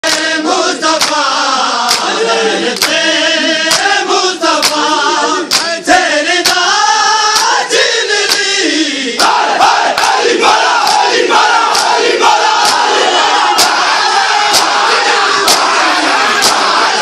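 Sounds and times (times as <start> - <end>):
crowd beating chests: 0.0 - 6.7, 9.2 - 17.0
men singing a lament: 0.0 - 17.0.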